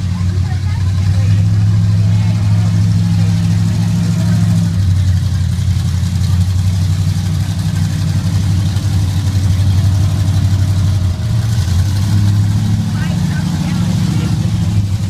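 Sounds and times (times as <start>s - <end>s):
large truck engine idling: 0.0s - 15.0s.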